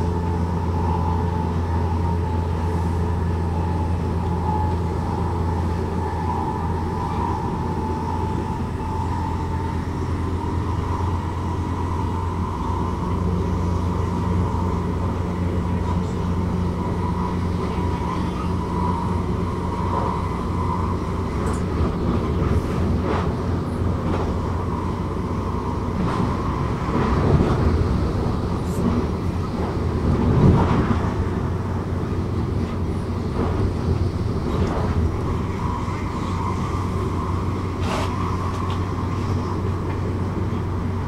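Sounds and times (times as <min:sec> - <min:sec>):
constant hum: 0:00.0 - 0:41.0
train wheels rumbling on track: 0:00.0 - 0:41.0.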